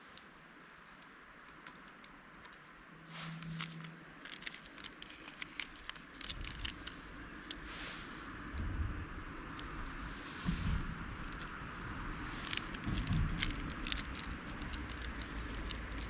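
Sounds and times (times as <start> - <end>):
campfire crackling: 0.0 - 16.0
low rumble: 2.9 - 16.0.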